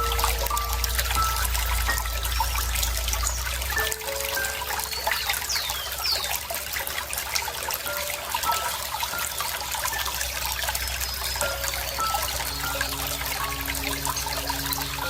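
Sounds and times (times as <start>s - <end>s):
bird chirping: 0.0s - 6.4s, 7.9s - 15.0s
water trickling and babbling: 0.0s - 15.0s.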